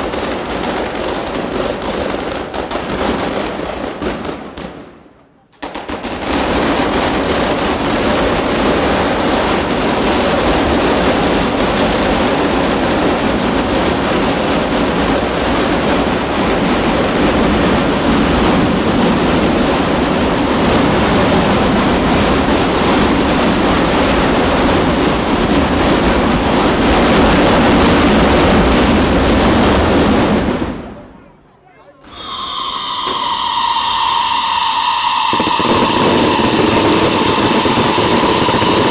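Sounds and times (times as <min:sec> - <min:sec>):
firecrackers crackling: 0:00.0 - 0:31.4, 0:32.0 - 0:38.9.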